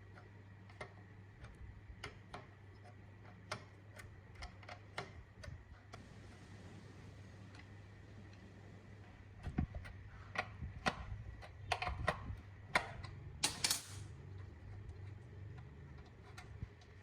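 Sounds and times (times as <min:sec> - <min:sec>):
clicks and knocks on metal parts: 0:00.0 - 0:06.1, 0:09.4 - 0:17.0
steady low hum: 0:00.0 - 0:17.0.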